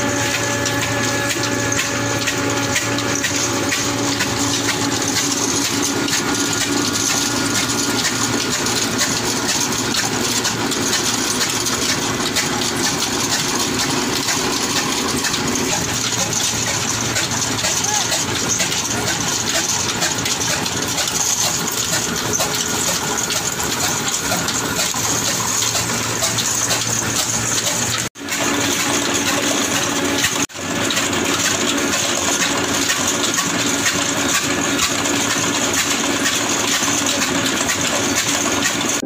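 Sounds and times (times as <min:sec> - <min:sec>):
stationary diesel engine clatter: 0:00.0 - 0:39.0.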